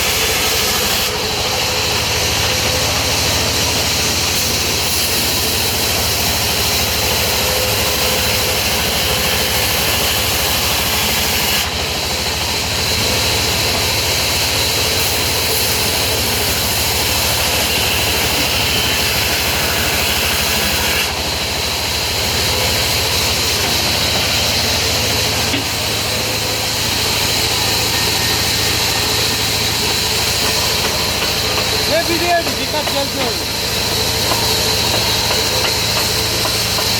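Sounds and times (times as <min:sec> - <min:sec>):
loud machinery hiss: 0:00.0 - 0:36.9.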